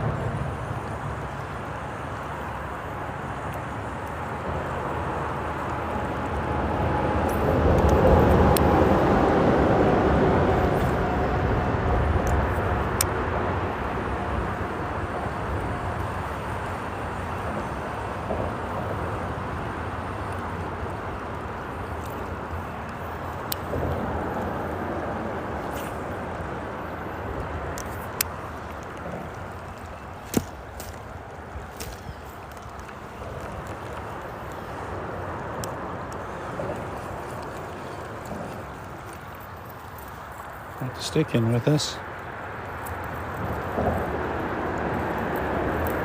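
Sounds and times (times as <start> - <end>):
freeway traffic rumble: 0.0 - 46.0
vehicle passing: 0.0 - 46.0.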